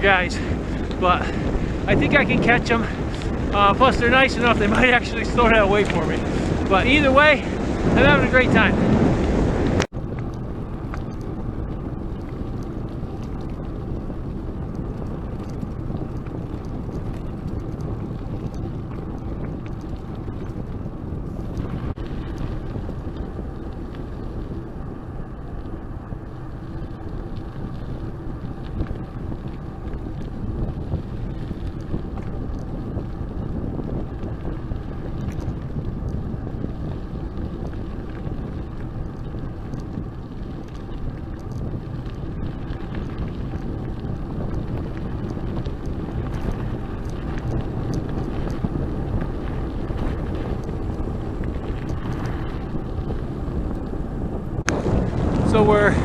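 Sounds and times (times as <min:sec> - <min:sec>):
bicycle tyres rolling: 0:00.0 - 0:56.0
wind on microphone: 0:00.0 - 0:56.0
faint ticks: 0:09.2 - 0:55.4.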